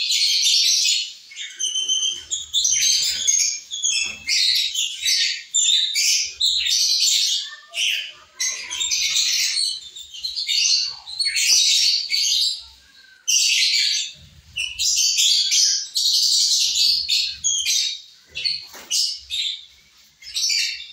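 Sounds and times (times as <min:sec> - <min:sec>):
lovebirds chattering: 0:00.0 - 0:20.9.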